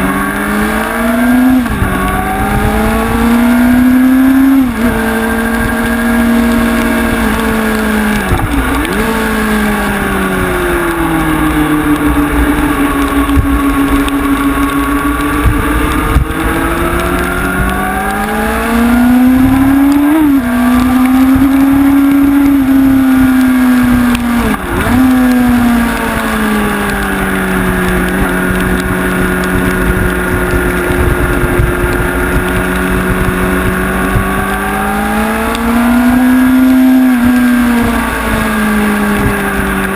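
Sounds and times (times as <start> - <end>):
motorcycle engine at high revs: 0.0 - 39.9
quick gear changes: 0.0 - 39.9.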